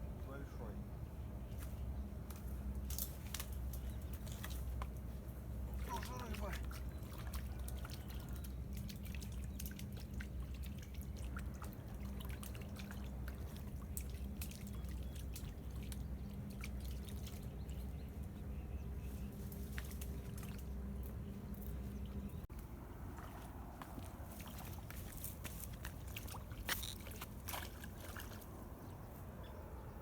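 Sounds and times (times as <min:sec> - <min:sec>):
steady low hum: 0:00.0 - 0:30.0
small sharp ticks and splashes: 0:01.5 - 0:29.0
water lapping and dripping: 0:02.2 - 0:29.2.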